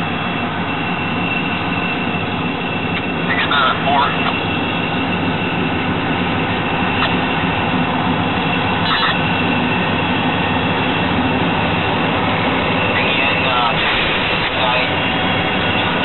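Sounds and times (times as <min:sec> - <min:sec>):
diesel locomotives passing: 0:00.0 - 0:16.0.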